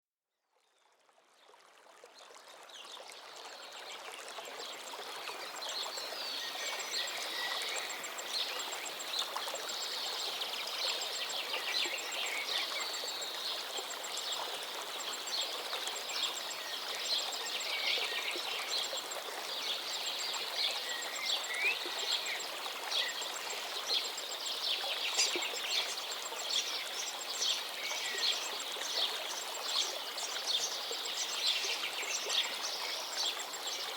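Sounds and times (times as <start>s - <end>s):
river flowing: 1.2s - 33.9s.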